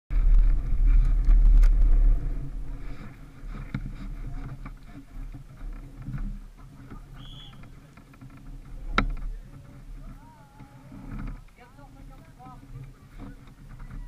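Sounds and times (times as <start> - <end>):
wind rumbling on microphone: 0.1 - 14.0.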